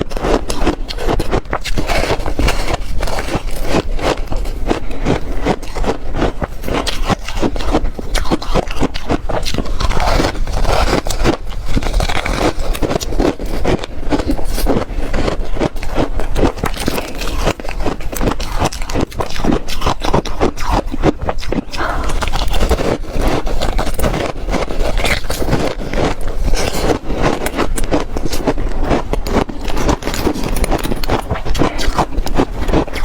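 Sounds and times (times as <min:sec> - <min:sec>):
crunching frozen ice cake: 0:00.0 - 0:33.0.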